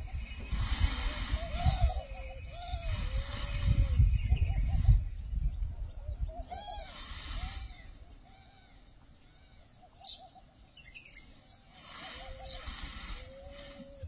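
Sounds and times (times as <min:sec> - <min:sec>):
rustling hiss: 0:00.0 - 0:05.2, 0:06.5 - 0:10.1, 0:10.9 - 0:14.0
birds hooting softly: 0:00.0 - 0:14.0.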